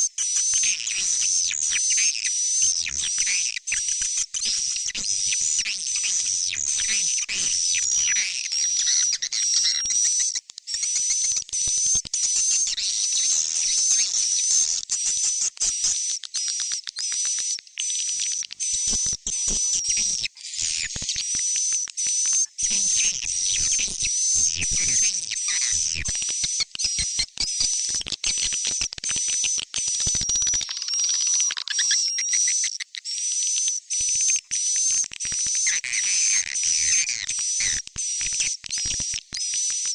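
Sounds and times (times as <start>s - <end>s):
high-pitched bird chick chirps: 0.5s - 39.9s.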